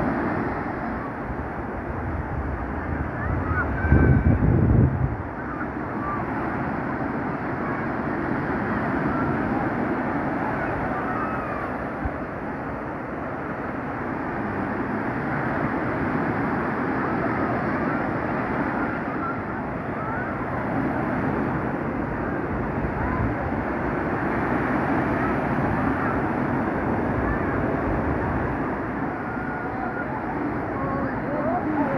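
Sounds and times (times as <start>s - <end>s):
surf breaking on a beach: 0.0s - 31.9s
faint distant voices: 0.1s - 31.9s.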